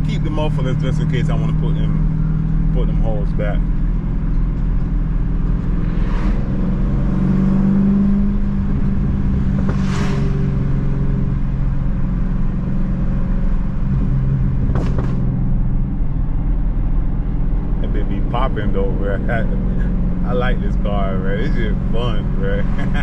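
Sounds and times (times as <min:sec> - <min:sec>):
car exhaust drone: 0:00.0 - 0:23.0.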